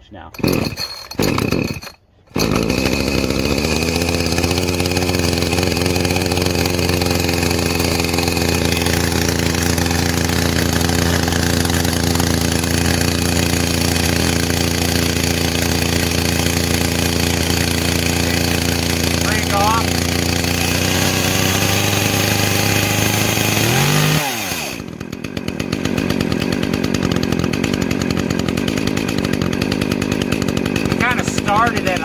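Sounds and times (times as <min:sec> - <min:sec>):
chainsaw starting and running: 0:00.3 - 0:32.0.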